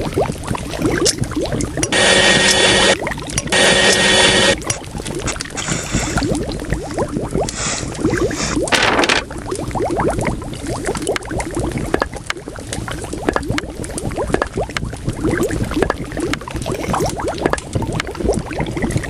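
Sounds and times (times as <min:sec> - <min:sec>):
liquid bubbling and gurgling: 0:00.0 - 0:19.0.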